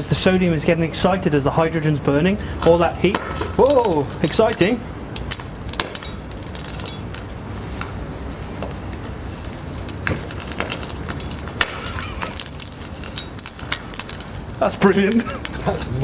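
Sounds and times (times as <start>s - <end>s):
low background noise: 0.0s - 16.0s
burning metal popping and crackling: 2.7s - 16.0s.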